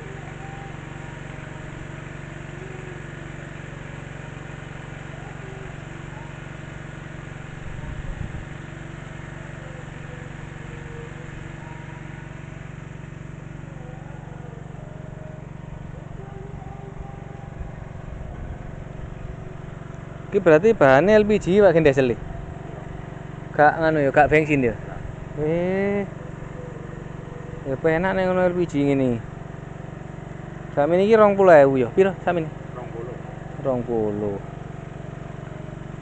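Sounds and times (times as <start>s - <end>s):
small petrol engine running: 0.0s - 36.0s.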